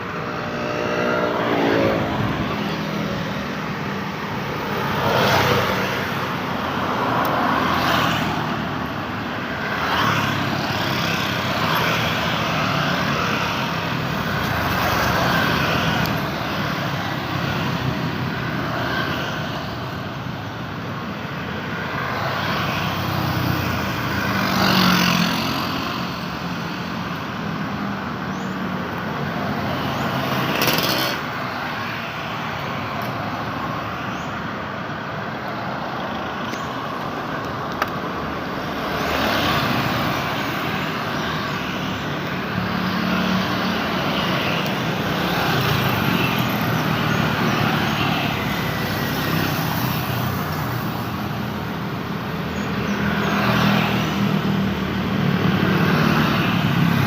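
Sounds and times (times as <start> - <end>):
road traffic noise: 0.0 - 57.0.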